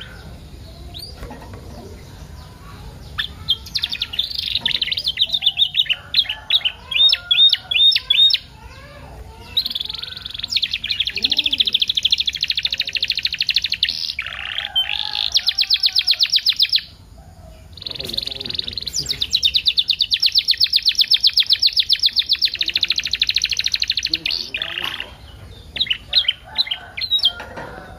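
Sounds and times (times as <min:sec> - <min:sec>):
canary singing trills: 0:00.0 - 0:27.9.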